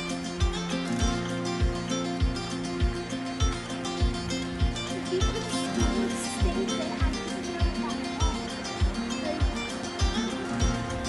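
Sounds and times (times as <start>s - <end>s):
plucked strings over a beat: 0.0s - 11.0s.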